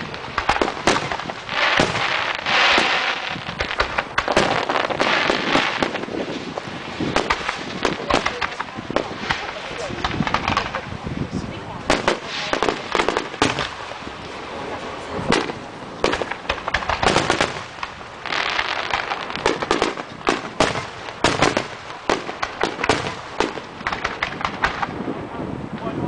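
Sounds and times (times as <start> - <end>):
fireworks bangs: 0.0 - 11.2, 11.8 - 25.4
fireworks crackling: 0.0 - 26.0.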